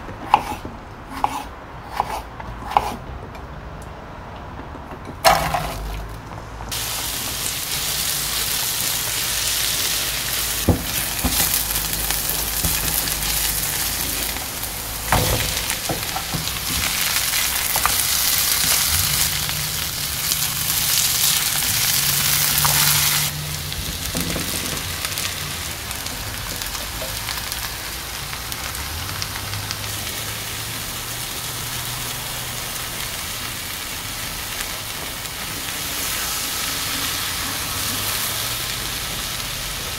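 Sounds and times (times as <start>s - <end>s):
vegetables sizzling in oil: 6.7s - 39.9s.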